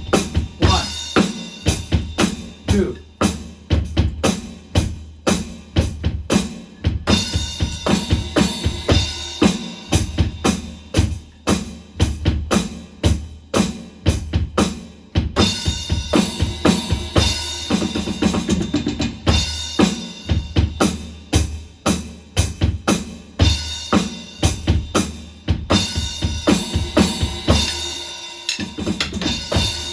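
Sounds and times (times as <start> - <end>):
bass drum and snare: 0.0 - 29.9.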